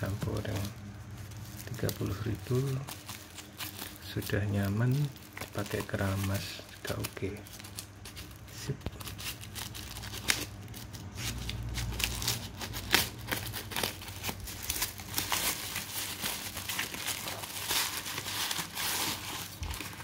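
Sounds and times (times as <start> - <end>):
plastic crinkling: 0.0 - 20.0.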